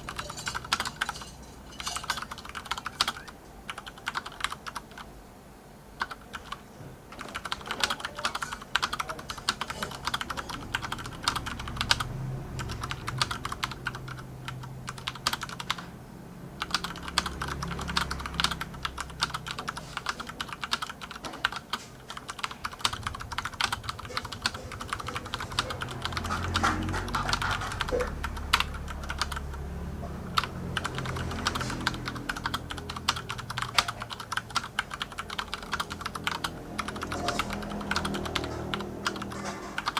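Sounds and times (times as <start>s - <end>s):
mechanical keyboard typing: 0.0s - 5.1s, 6.0s - 15.9s, 16.6s - 39.9s.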